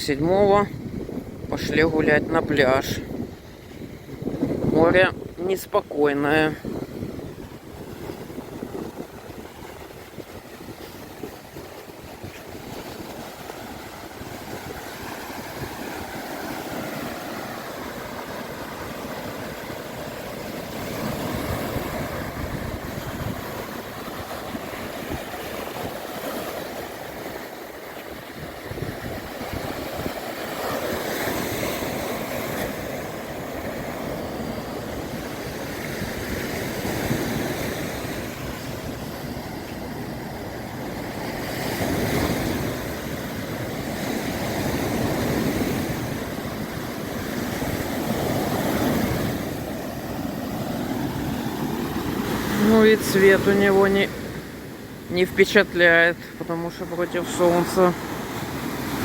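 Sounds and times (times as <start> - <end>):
wind buffeting the microphone: 0.0 - 55.2
surf breaking on a beach: 0.0 - 59.0.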